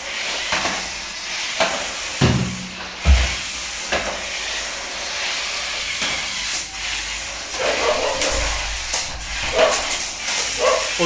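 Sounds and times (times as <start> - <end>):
toy car motors whirring: 0.0 - 2.2, 3.7 - 11.0.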